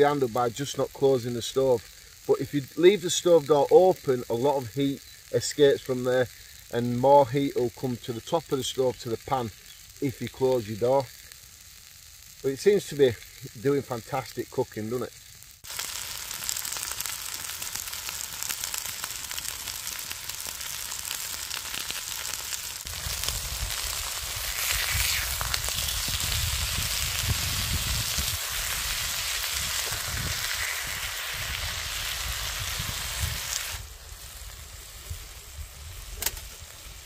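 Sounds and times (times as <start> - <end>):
steaks sizzling in a pan: 0.0 - 37.0.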